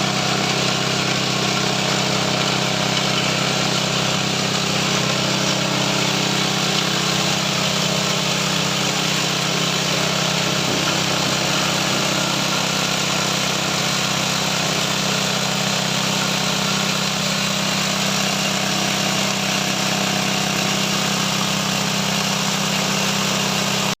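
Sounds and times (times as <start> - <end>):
grinder machine running: 0.0 - 24.0.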